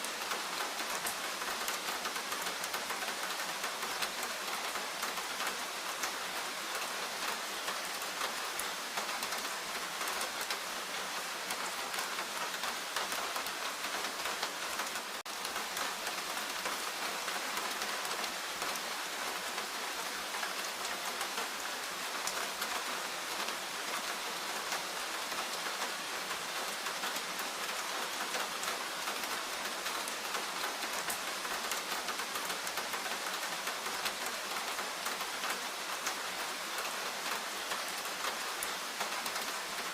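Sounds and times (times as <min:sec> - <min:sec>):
rain hissing in forest: 0:00.0 - 0:39.9.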